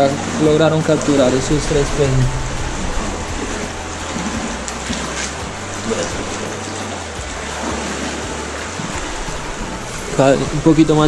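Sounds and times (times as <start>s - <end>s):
creek water rushing: 0.0s - 11.0s
low background music: 0.0s - 11.0s.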